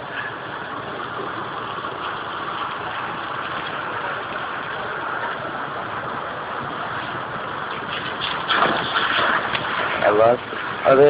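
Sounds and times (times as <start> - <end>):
car engine idling: 0.0 - 11.0
rushing noise inside car: 0.0 - 11.0.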